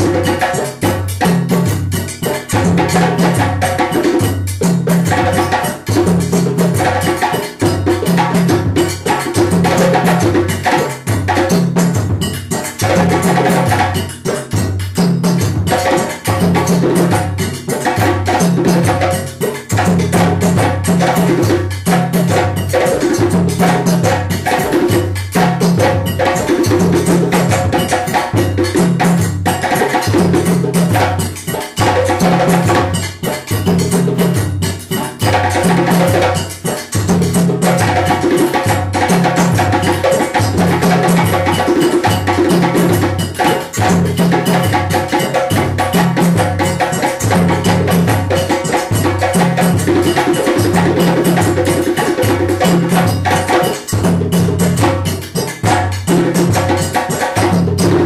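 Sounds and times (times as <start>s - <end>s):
djembe hand strikes: 0.0s - 58.0s.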